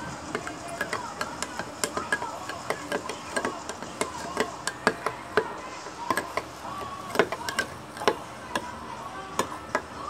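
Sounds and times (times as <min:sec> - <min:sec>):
spoon stirring ice in glass: 0:00.0 - 0:10.0.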